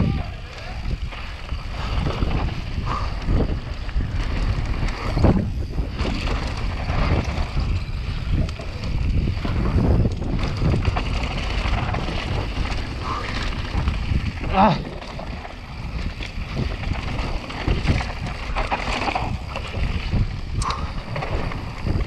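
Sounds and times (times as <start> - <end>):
bike rattling over bumps: 0.0 - 22.0
tyres on loose dirt: 0.0 - 22.0
wind on microphone: 0.0 - 22.0.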